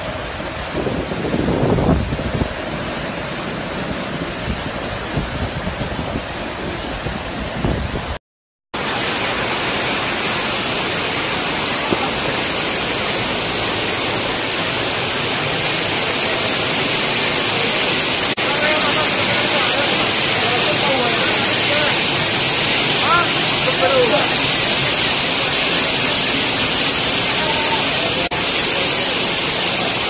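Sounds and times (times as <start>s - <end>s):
waterfall rushing: 0.0s - 8.2s, 8.8s - 30.0s.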